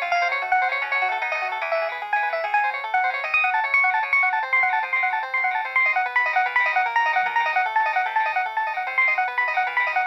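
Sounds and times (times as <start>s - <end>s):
polyphonic phone ringtone: 0.0s - 10.0s.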